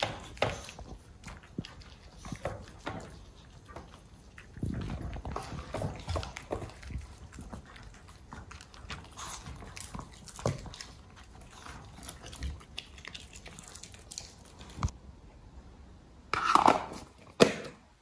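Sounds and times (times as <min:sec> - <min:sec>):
dogs chewing and crunching: 0:00.0 - 0:15.0.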